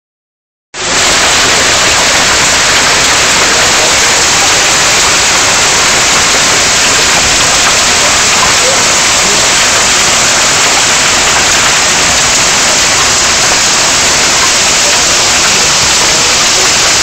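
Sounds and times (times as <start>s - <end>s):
heavy hail pelting down: 0.8s - 17.0s.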